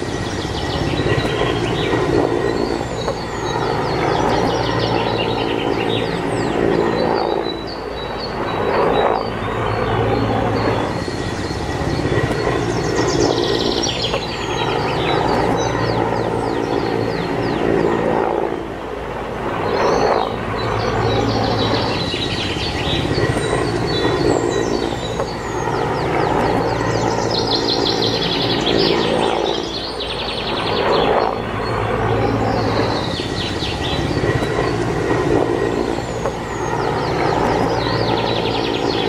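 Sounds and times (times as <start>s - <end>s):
birds chirping: 0.0s - 39.0s
steady low hum: 0.0s - 39.0s.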